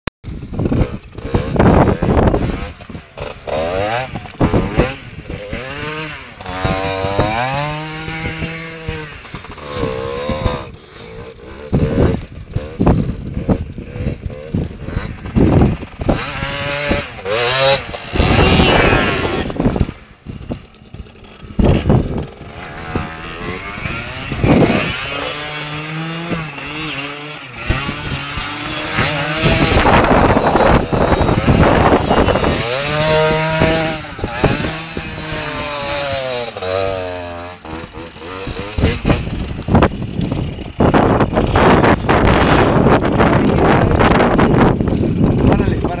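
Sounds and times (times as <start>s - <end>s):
motorcycle engine revving: 0.3s - 46.0s.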